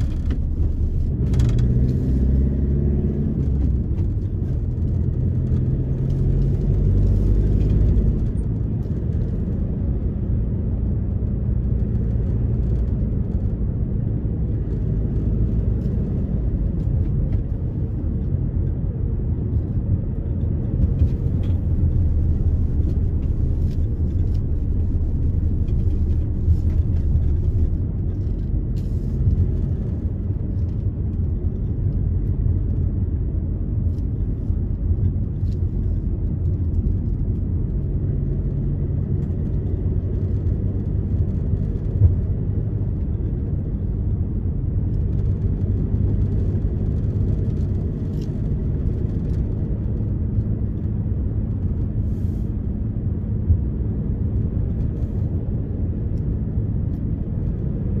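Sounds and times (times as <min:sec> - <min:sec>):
car driving rumble: 0:00.0 - 0:58.0.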